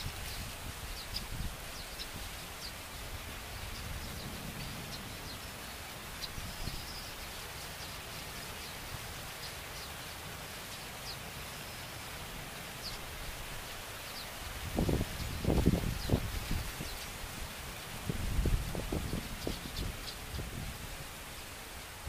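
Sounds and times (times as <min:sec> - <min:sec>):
birds giving high chirps: 0:00.0 - 0:12.2, 0:12.8 - 0:17.6, 0:18.4 - 0:20.8
outdoor hiss: 0:00.0 - 0:22.0.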